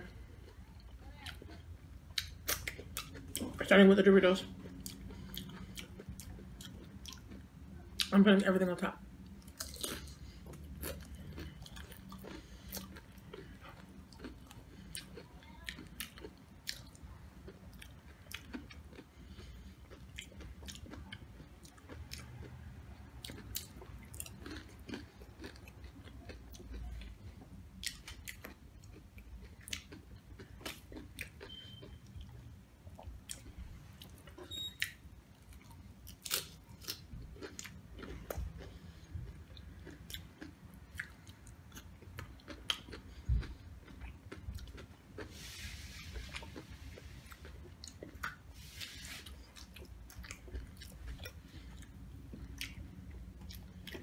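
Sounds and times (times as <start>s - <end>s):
chewing crunchy chips: 0.0s - 3.7s, 4.3s - 8.2s, 9.2s - 54.0s.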